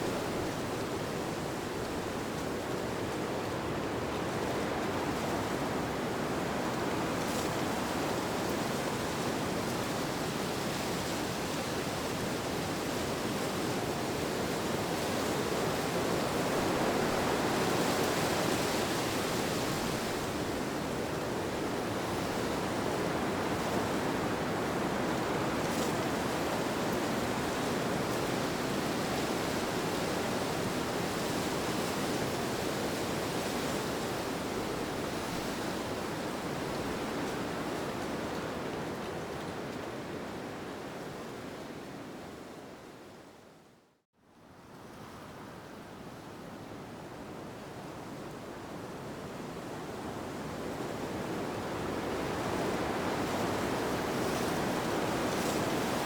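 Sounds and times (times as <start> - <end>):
wind: 0.0 - 56.0.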